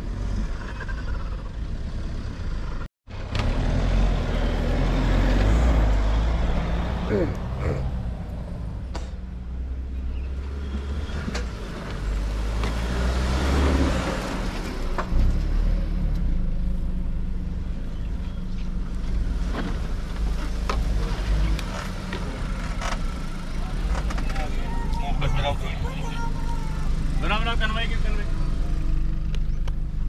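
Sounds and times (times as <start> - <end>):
engine and drivetrain rumble: 0.0 - 30.0.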